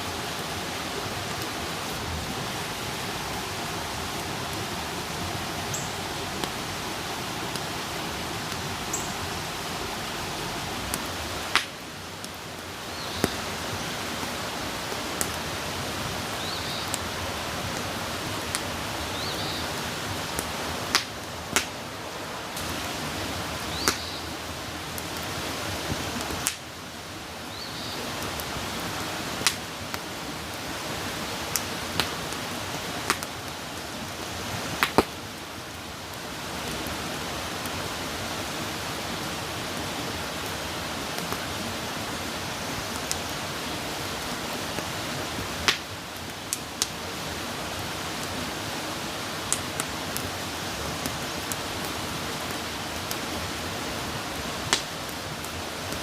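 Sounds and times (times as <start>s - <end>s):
campfire hissing and crackling: 0.0s - 56.0s.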